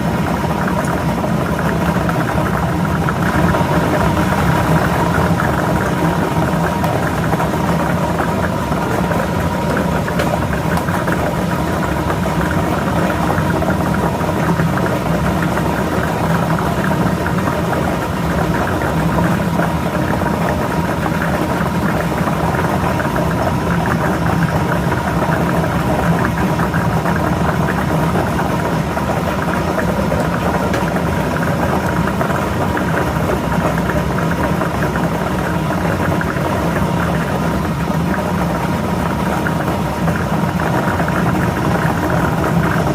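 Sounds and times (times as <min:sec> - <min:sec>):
balls churning in machine: 0:00.0 - 0:42.9
motor and blower hum: 0:00.0 - 0:42.9.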